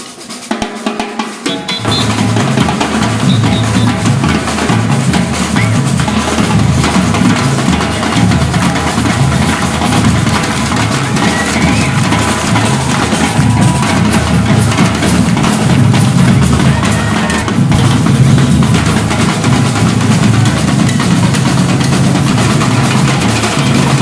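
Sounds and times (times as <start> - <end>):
drum kit playing: 0.0 - 24.0.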